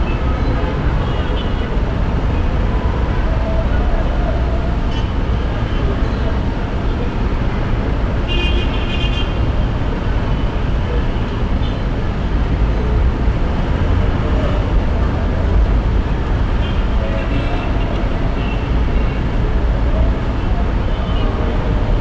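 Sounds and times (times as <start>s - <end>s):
rumble of passing traffic: 0.0s - 22.0s.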